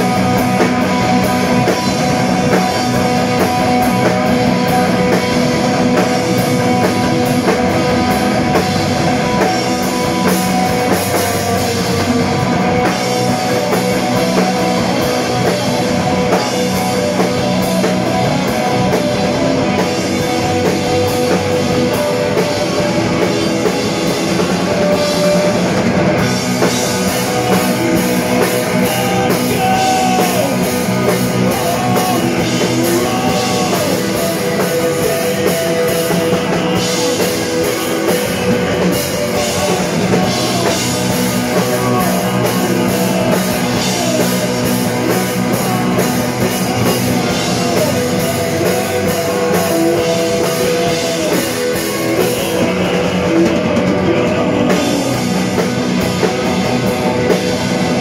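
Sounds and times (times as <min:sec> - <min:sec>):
drum kit: 0:00.0 - 0:58.0
electric guitars: 0:00.0 - 0:58.0.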